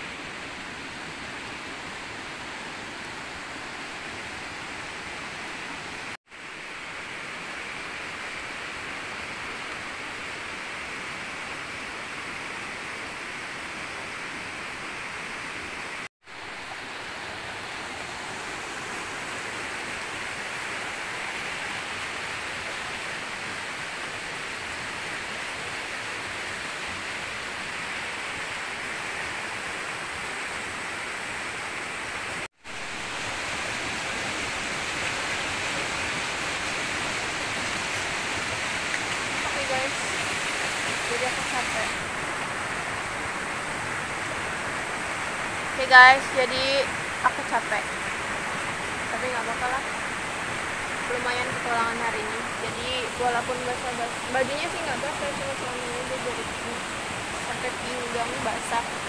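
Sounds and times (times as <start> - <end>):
rain and running water: 0.0 - 59.0.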